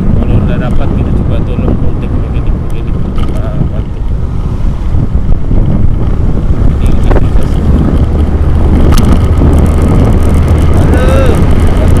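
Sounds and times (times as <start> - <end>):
vehicle engine and tyres rumbling: 0.0 - 12.0
wind buffeting microphone: 0.0 - 12.0.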